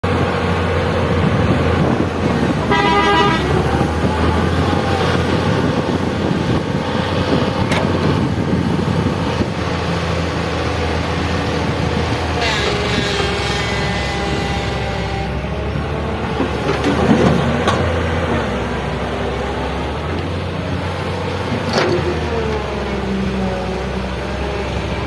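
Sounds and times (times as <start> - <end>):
heavy machinery engine rumbling: 0.0 - 25.0.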